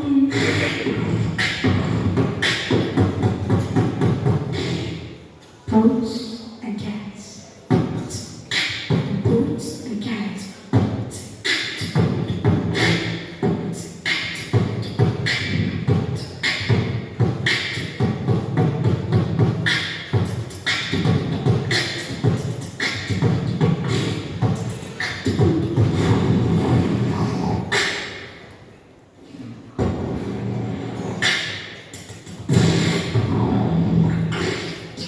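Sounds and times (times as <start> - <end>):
person beatboxing: 0.0 - 35.0.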